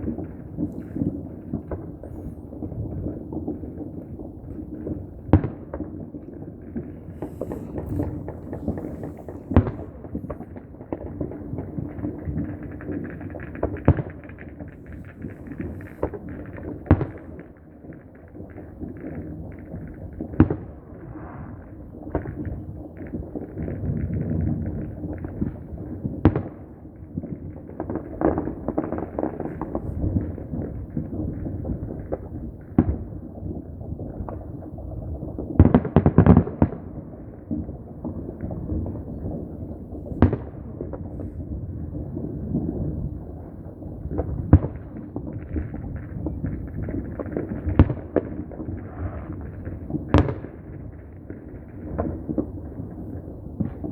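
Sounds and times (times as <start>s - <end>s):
loud firework bangs: 0.0s - 17.5s, 18.4s - 33.2s, 35.5s - 53.9s
firecrackers crackling pops: 0.0s - 53.9s.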